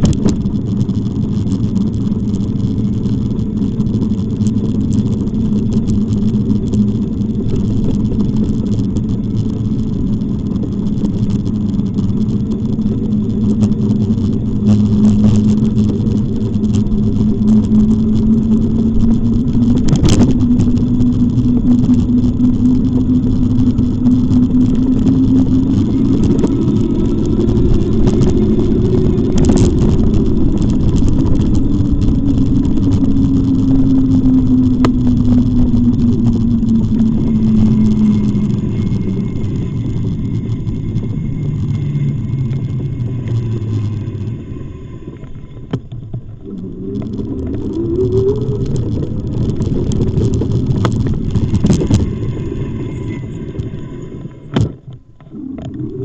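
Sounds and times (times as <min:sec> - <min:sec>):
low rumble: 0:00.0 - 0:56.0
motor humming: 0:00.0 - 0:56.0.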